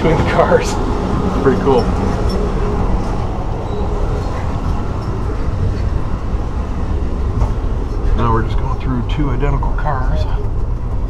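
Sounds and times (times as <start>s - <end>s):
train car rumbling on rails: 0.0s - 11.0s.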